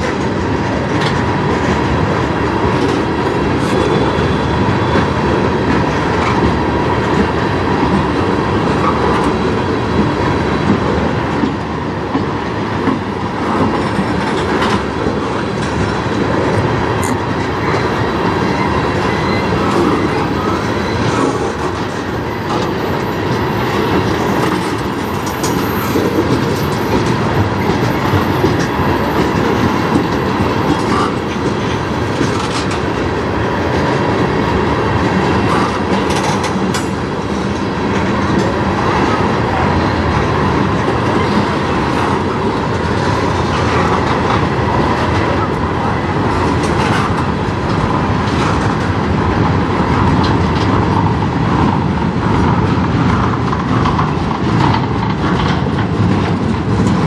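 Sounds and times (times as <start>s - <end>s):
steel wheels rumbling on rail: 0.0s - 57.0s
wheels clacking over rail joints: 0.0s - 57.0s.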